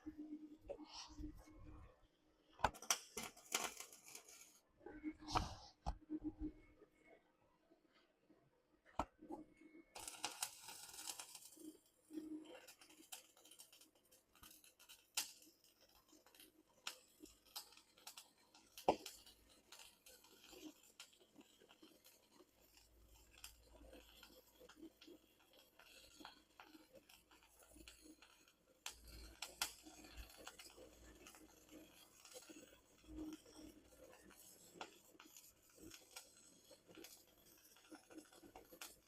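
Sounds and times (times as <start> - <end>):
small objects clicking and scraping: 2.6 - 6.2, 9.3 - 39.0.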